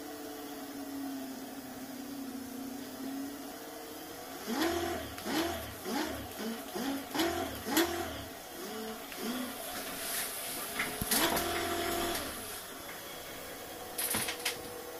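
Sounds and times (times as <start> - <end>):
electric hub motor whining: 0.0 - 14.9.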